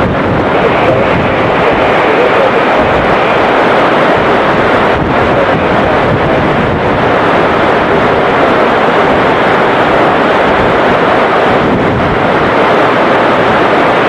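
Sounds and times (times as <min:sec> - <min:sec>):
heavy rain: 0:00.0 - 0:14.0
jet airliner engine noise: 0:00.0 - 0:14.0
wind buffeting microphone: 0:00.0 - 0:14.0.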